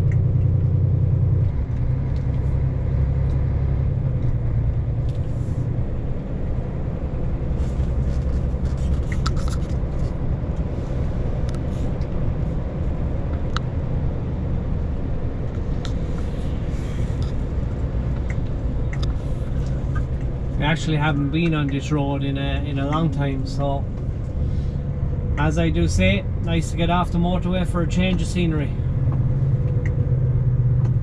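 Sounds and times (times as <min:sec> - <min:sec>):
vehicle engine and road drone: 0:00.0 - 0:31.0.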